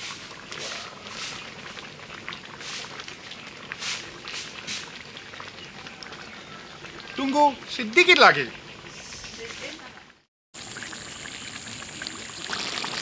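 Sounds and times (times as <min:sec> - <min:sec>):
pot bubbling: 0:00.0 - 0:13.0.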